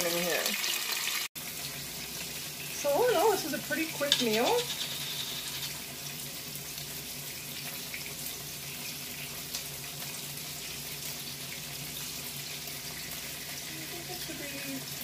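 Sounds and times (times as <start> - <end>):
fish sizzling in a skillet: 0.0 - 15.0.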